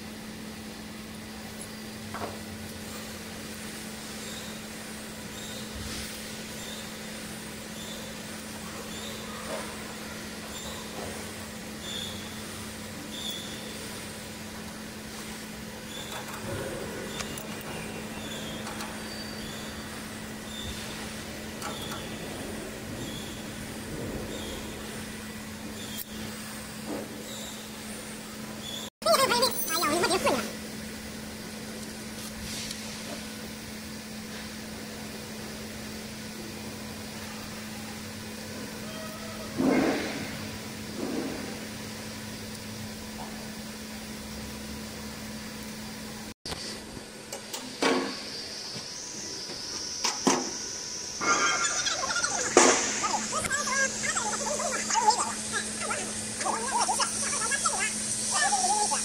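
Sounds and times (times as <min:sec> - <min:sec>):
constant low hum: 0:00.0 - 0:59.0.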